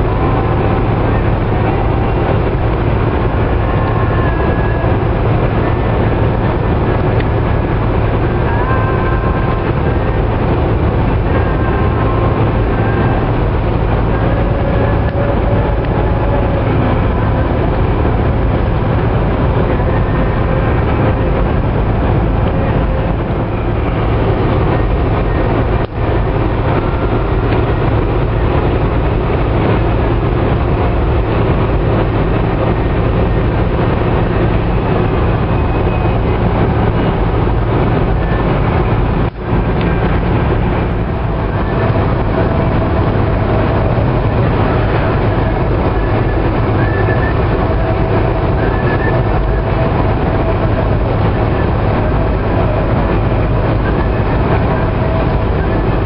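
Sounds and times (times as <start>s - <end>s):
car engine drone: 0.0s - 56.0s
tyre noise on road: 0.0s - 56.0s.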